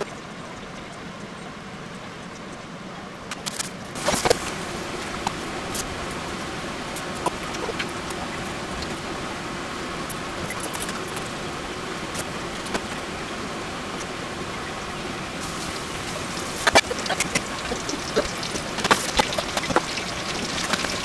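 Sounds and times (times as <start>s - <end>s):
water boiling in a pot: 4.0s - 21.0s.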